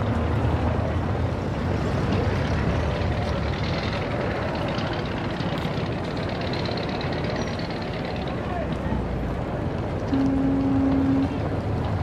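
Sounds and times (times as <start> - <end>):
street noise low rumble: 0.0 - 12.0.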